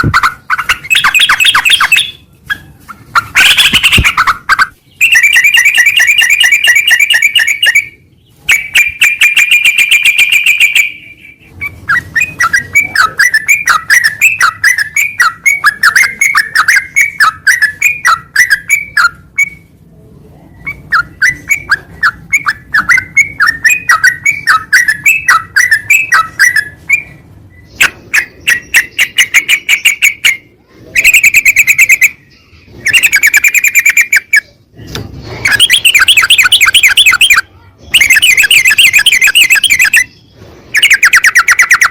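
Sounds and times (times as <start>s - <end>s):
bubbly bird chirps: 0.0s - 2.2s, 3.2s - 19.6s, 20.6s - 34.5s, 35.4s - 40.1s, 40.7s - 41.9s
buzzy bird trills: 0.0s - 19.8s, 20.5s - 41.9s.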